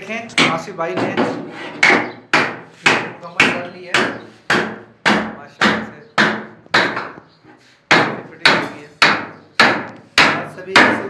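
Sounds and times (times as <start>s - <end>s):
hammer driving nails into wood: 0.4s - 7.2s, 7.9s - 11.0s.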